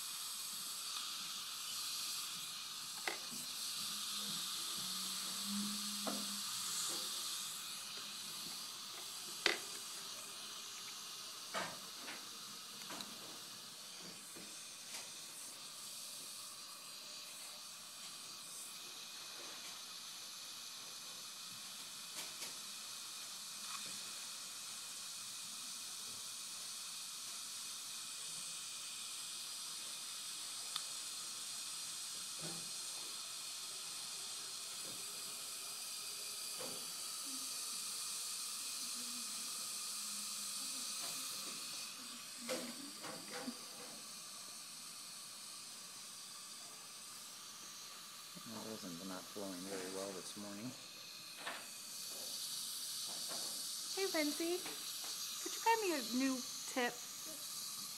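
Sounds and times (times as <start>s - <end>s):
dental suction hiss: 0.0s - 57.9s.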